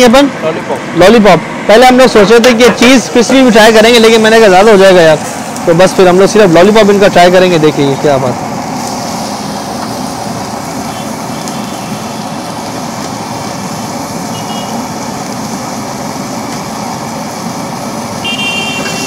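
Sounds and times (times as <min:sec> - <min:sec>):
gas burner roaring: 0:00.0 - 0:19.0
street traffic: 0:00.0 - 0:19.0.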